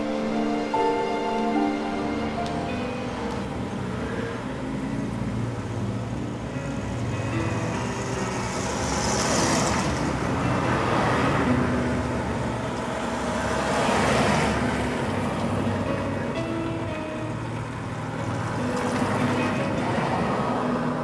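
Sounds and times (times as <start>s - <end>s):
car and bus engines humming: 0.0s - 21.0s.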